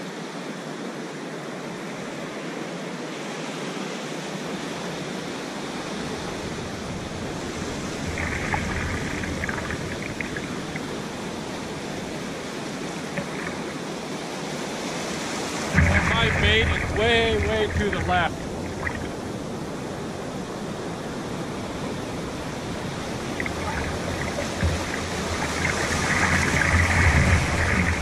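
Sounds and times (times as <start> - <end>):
ocean waves breaking on beach: 0.0 - 28.0.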